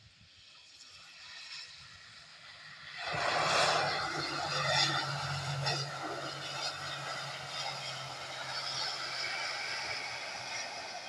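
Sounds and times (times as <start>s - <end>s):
turboprop engines rushing: 0.7s - 11.0s
low engine hum: 1.7s - 11.0s.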